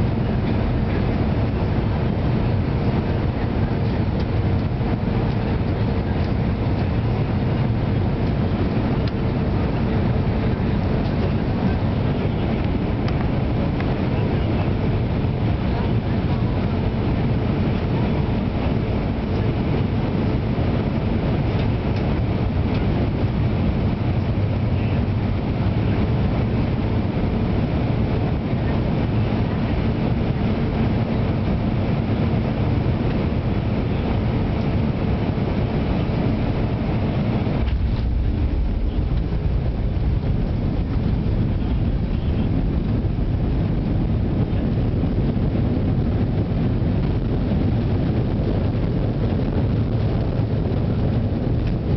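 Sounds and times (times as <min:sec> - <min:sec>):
aircraft engines and rushing air: 0:00.0 - 0:51.9
deep rumble of runway rollout: 0:00.0 - 0:51.9.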